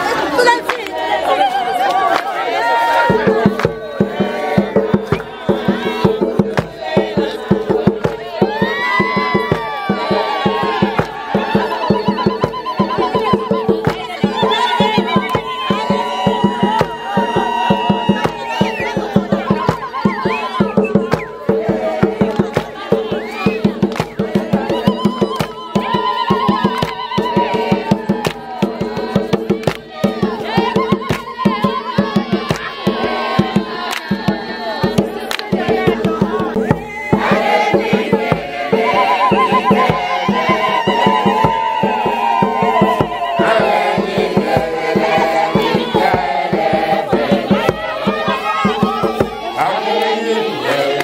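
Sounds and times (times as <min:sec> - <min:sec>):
fast drum or clap beat: 0:00.0 - 0:51.0
group singing: 0:00.0 - 0:51.0.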